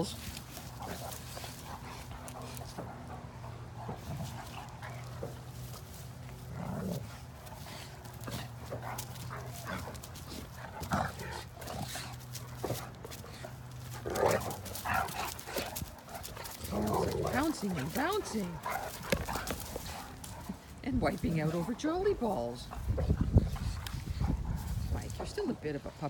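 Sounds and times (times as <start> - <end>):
dogs wrestling in play: 0.0 - 25.4.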